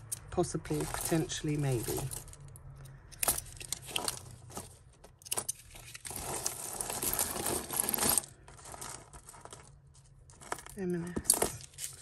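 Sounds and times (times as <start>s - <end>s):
jewellery clinking and jangling: 0.0s - 12.0s.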